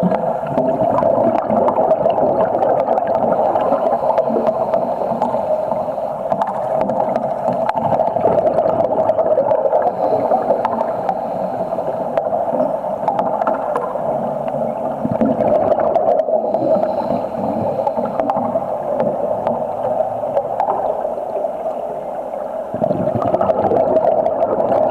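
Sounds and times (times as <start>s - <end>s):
underwater bubbles gurgling: 0.0s - 24.9s.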